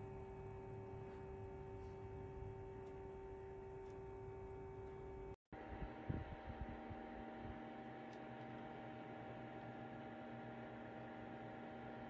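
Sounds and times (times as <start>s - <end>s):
air cooler fan humming: 0.0s - 12.0s.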